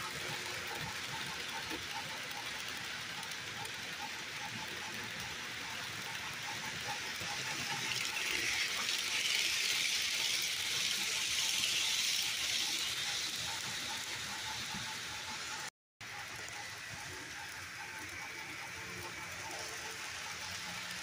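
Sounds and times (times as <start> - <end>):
model train cars rolling on track: 0.0 - 21.0.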